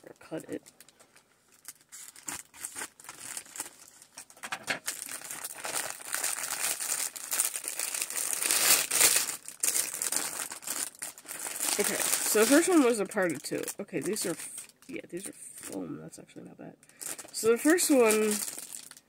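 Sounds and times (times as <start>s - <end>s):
plastic bag crinkling: 0.0s - 15.8s, 16.9s - 19.0s.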